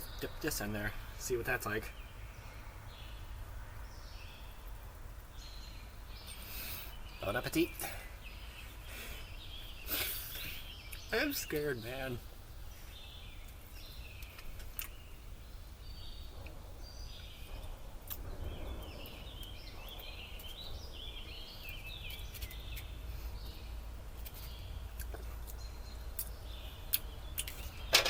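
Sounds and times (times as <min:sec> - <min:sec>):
birds chirping and warbling: 0:00.0 - 0:28.0.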